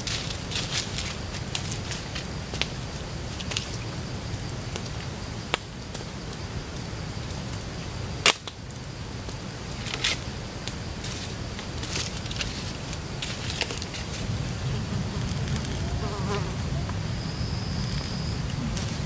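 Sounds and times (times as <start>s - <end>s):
campfire crackling and popping: 0.0s - 17.0s
insect drone: 0.0s - 19.0s.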